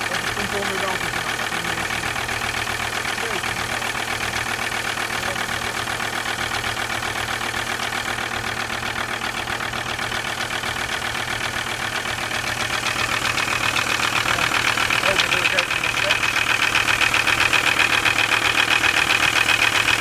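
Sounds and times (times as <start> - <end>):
diesel engine idling with knocking: 0.0 - 20.0.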